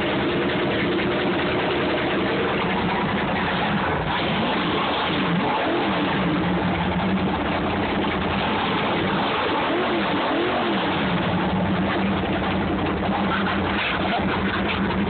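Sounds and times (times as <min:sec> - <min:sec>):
boat engine idling: 0:00.0 - 0:09.7, 0:10.8 - 0:15.0
engine revving: 0:00.0 - 0:15.0.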